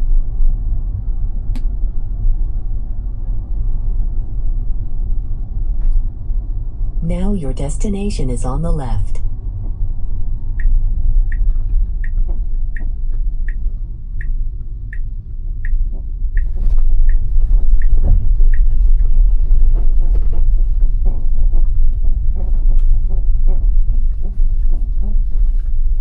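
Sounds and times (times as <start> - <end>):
low road rumble: 0.0 - 26.0.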